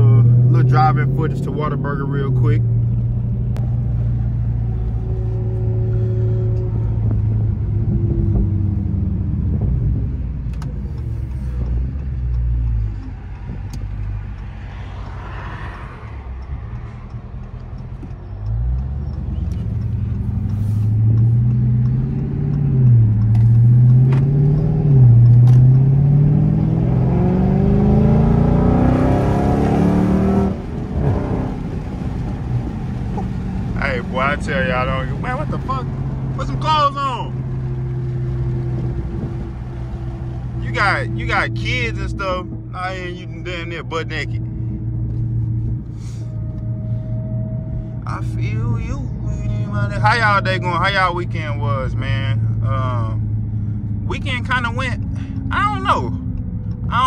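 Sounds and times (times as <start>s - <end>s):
car cruising hum: 0.0s - 57.0s
car engine accelerating: 0.0s - 57.0s.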